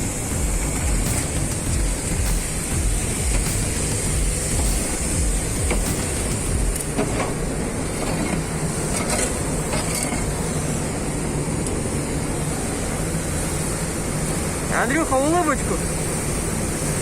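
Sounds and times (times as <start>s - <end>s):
industrial machinery hum and hiss: 0.0s - 17.0s.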